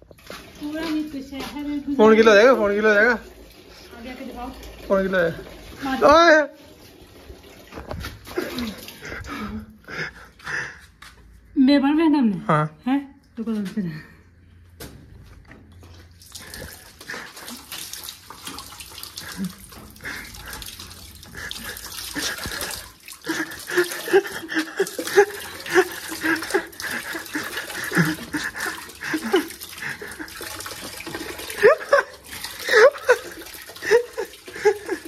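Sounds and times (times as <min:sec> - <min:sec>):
water running from a tap: 0:00.0 - 0:09.5, 0:15.8 - 0:35.0
water splashing on concrete: 0:00.0 - 0:09.6, 0:15.6 - 0:35.0.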